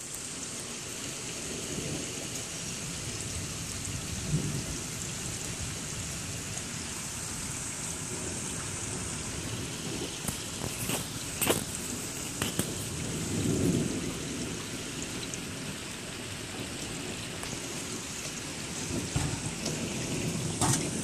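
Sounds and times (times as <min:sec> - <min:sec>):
heavy rain falling: 0:00.0 - 0:21.0
low rumble of thunder: 0:00.7 - 0:10.7, 0:12.7 - 0:21.0.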